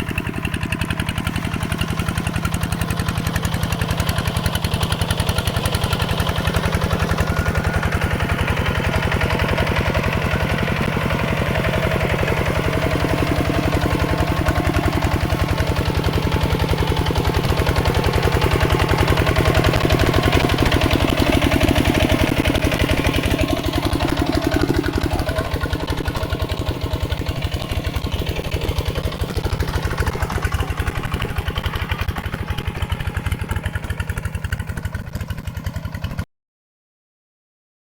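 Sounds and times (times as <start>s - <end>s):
diesel engine chugging: 0.0s - 36.2s.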